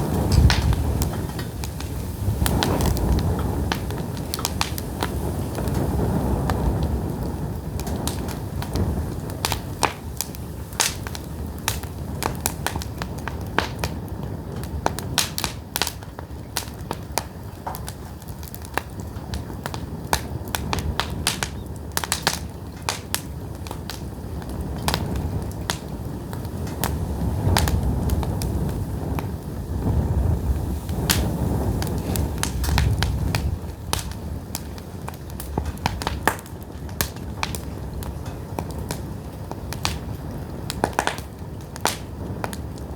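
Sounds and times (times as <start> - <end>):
firewood crackling and popping: 0.0 - 42.9
low fire rumble: 0.0 - 42.9.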